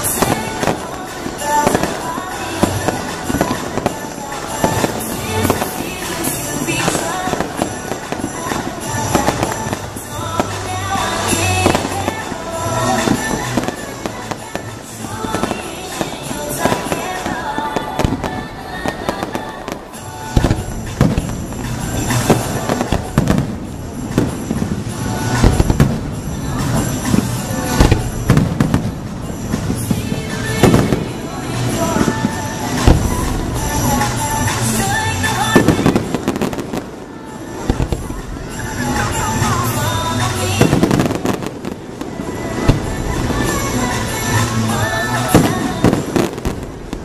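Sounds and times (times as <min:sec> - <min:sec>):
fireworks bangs and crackles: 0:00.0 - 0:47.0
music: 0:00.0 - 0:47.0.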